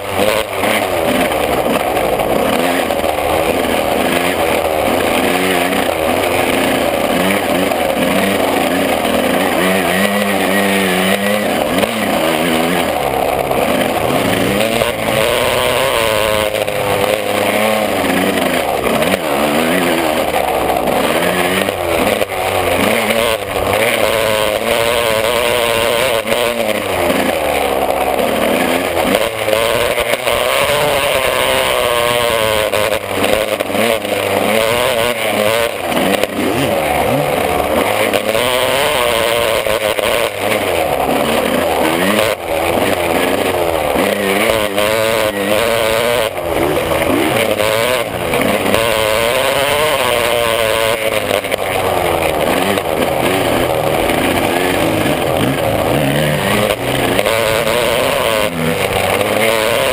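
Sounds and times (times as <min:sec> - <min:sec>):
two-stroke motorbike engine revving: 0:00.0 - 0:59.9.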